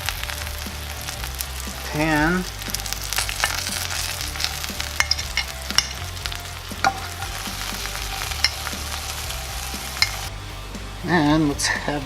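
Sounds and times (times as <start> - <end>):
meat sizzling in a pan: 0.0 - 10.3.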